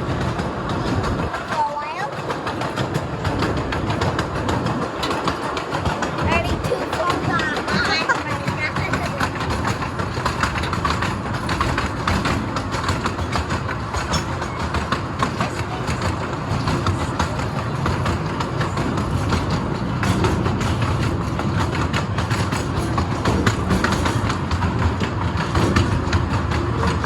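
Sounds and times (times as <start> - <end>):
train rumbling and rattling: 0.0 - 27.0
wheels clicking on rails: 0.0 - 27.0.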